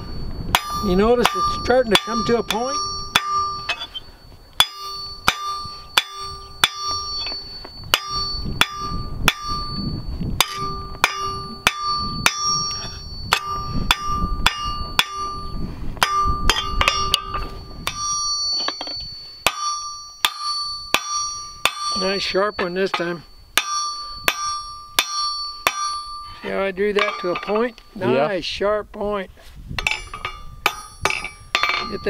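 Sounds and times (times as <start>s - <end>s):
hammer striking anvil: 0.5s - 4.0s, 4.6s - 27.9s, 29.8s - 32.0s.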